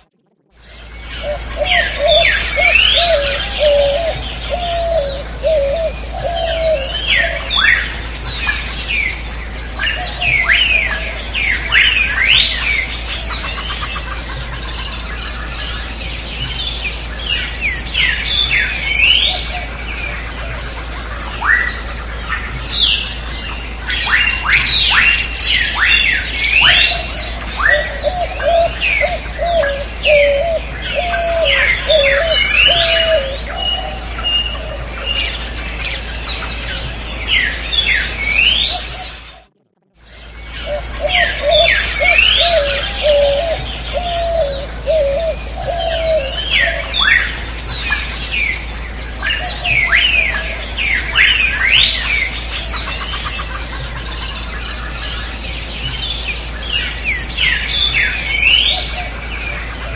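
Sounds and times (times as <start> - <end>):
birds chirping and whistling: 0.0 - 59.9
low warbling bird call: 0.0 - 59.9
steady low hum: 0.0 - 59.9.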